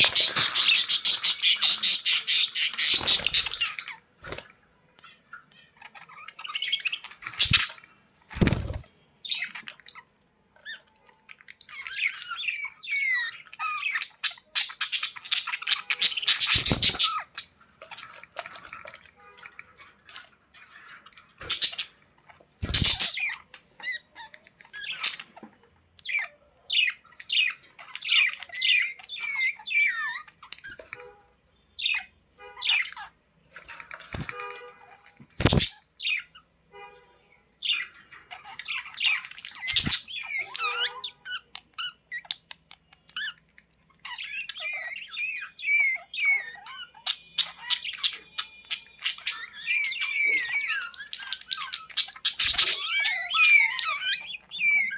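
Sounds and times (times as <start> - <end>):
budgerigars chirping and warbling: 0.0 - 36.5, 37.5 - 54.9.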